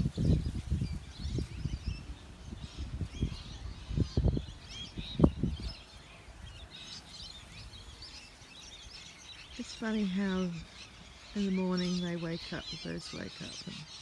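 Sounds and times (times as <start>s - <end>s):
birds chirping and calling: 0.0s - 14.0s.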